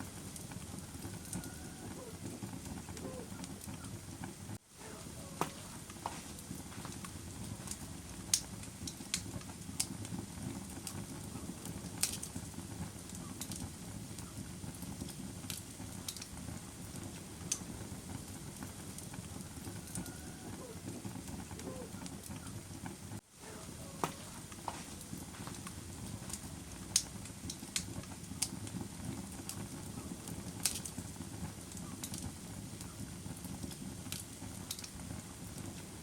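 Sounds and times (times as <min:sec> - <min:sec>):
bonfire crackling: 0:00.0 - 0:36.0.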